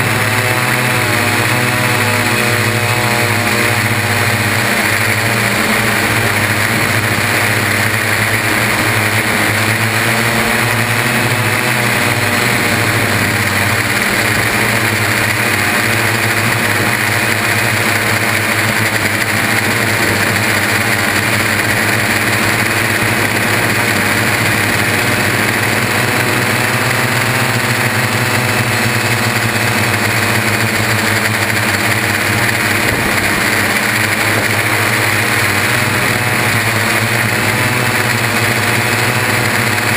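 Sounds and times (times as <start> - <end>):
multicopter propellers whining: 0.0 - 39.9.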